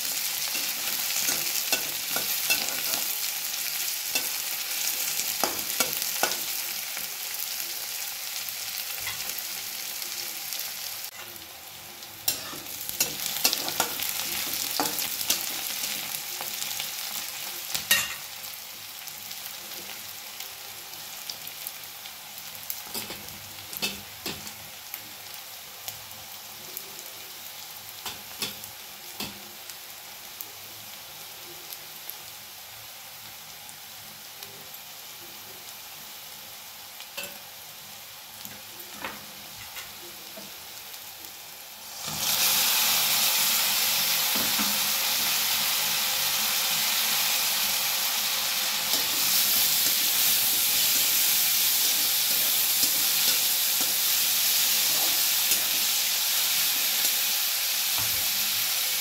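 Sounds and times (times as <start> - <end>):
onions sizzling in oil: 0.0 - 59.0
tomatoes hissing in hot oil: 0.0 - 59.0.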